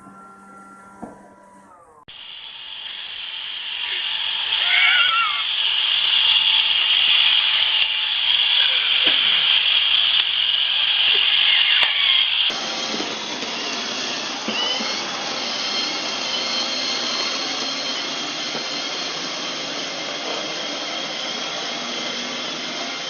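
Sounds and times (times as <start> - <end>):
robot vacuum cleaner whirring: 1.0 - 23.0.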